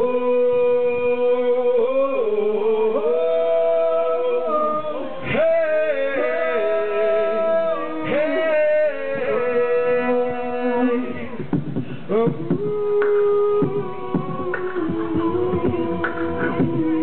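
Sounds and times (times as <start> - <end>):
man singing wordless notes: 0.0 - 17.0.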